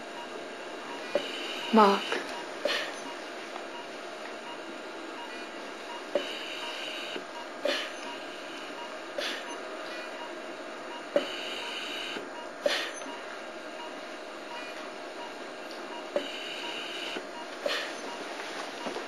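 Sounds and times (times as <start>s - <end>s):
hospital equipment hum: 0.0s - 19.0s.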